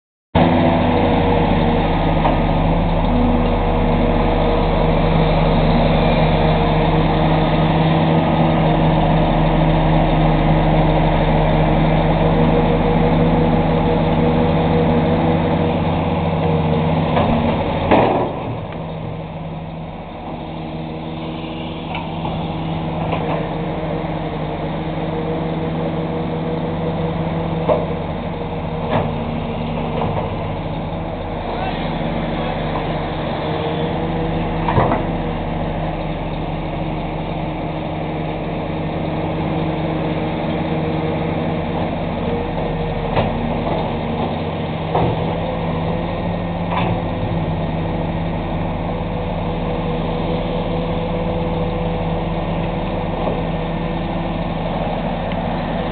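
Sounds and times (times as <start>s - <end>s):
excavator diesel engine running: 0.4s - 55.9s.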